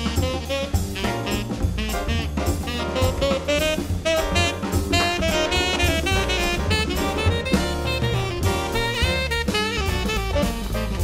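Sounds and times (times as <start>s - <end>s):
horn melody: 0.0s - 11.0s
jazz music: 0.0s - 11.0s.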